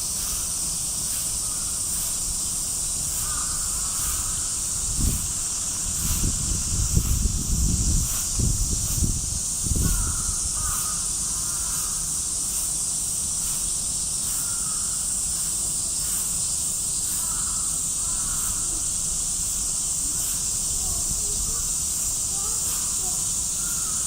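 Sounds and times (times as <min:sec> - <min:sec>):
cicadas shrilling drone: 0:00.0 - 0:24.0.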